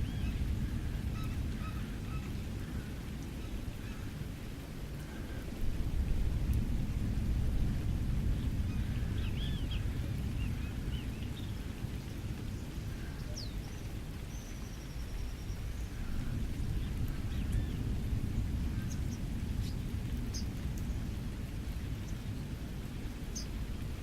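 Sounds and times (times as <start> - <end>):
rain: 0.0 - 24.0.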